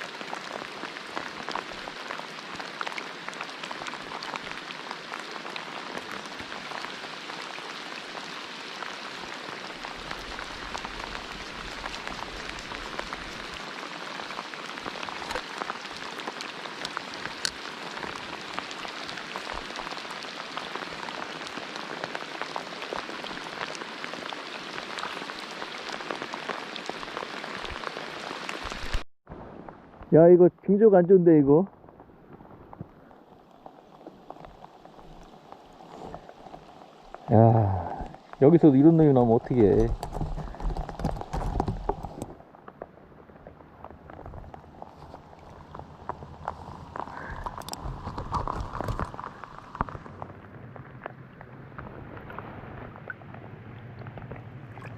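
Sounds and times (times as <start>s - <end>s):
steady rain falling: 0.0s - 54.8s.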